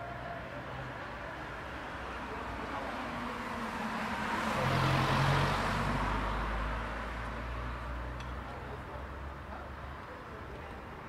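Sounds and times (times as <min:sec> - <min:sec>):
car tyre and road noise: 0:00.0 - 0:11.0.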